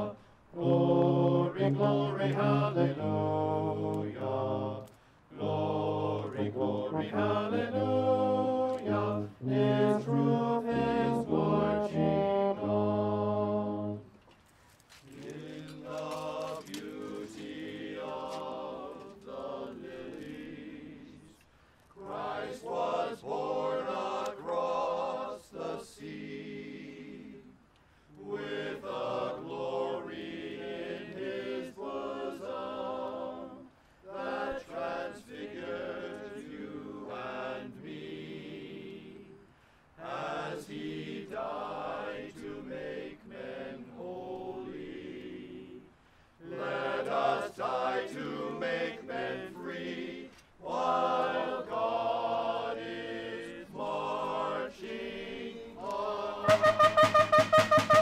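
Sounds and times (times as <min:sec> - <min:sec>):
slow choir-like chords: 0:00.0 - 0:14.3, 0:15.0 - 0:56.9.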